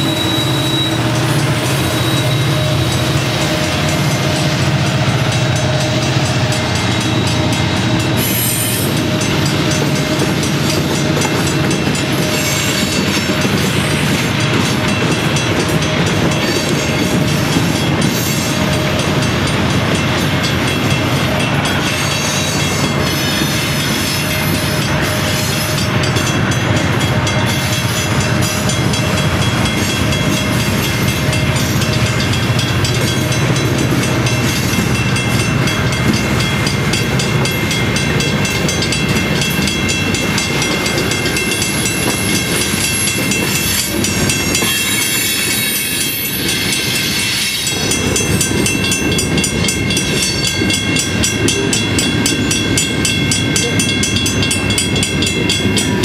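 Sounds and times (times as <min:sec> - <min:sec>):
train cars rattling: 0:00.0 - 0:56.0
train wheels on rails: 0:00.0 - 0:56.0.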